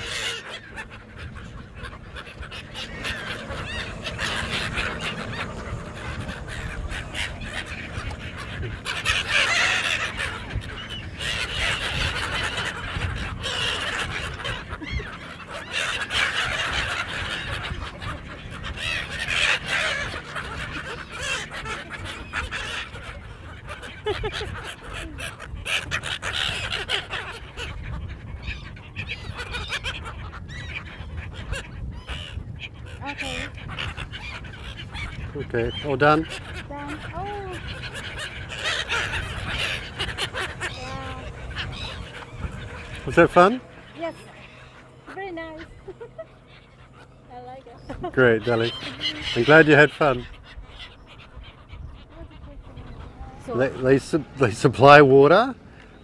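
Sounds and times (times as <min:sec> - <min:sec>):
flock of seagulls calling: 0:00.0 - 0:56.0.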